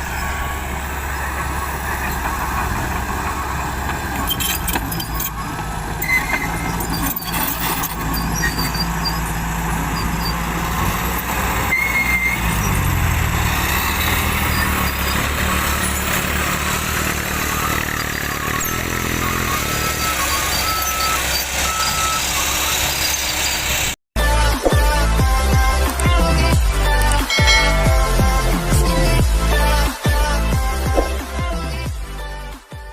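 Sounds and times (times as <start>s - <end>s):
diesel truck engine revving: 0.0s - 31.9s.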